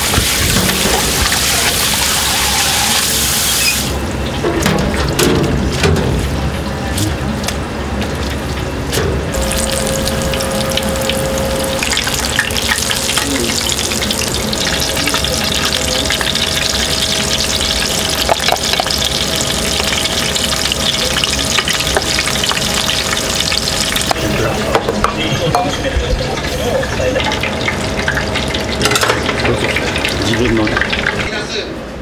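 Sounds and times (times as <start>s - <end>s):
deep-frying sizzle and crackle: 0.0s - 31.5s.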